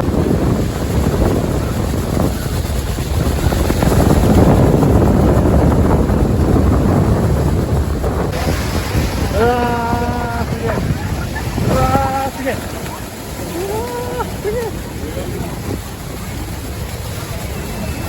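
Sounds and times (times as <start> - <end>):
waterfall roaring: 0.0 - 18.0
wind on microphone: 0.0 - 18.0.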